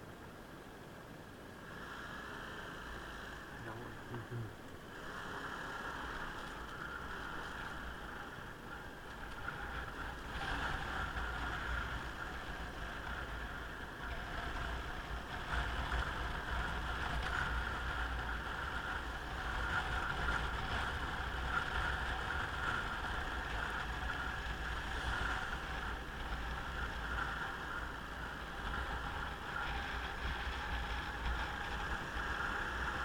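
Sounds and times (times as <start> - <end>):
wind and road noise: 0.0 - 33.0
motorcycle engine running: 5.8 - 33.0.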